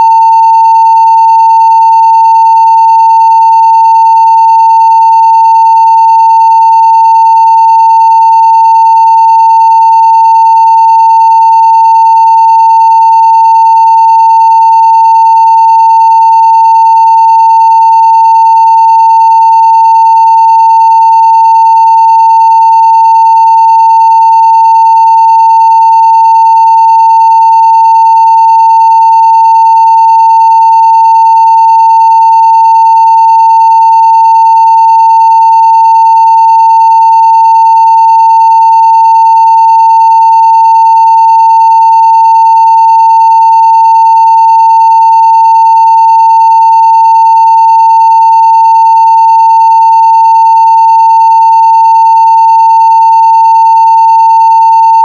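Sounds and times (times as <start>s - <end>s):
sine-wave test tone: 0.0s - 55.0s.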